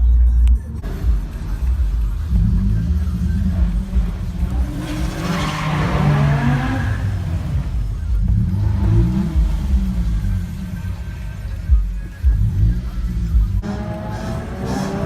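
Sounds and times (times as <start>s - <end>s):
heavy low rumble: 0.0s - 15.0s
car engine revving: 0.6s - 15.0s.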